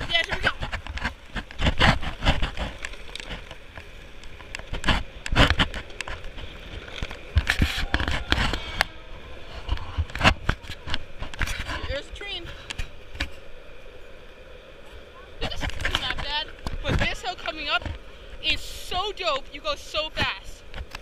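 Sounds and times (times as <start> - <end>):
skateboard wheels rolling on asphalt: 0.0 - 21.0.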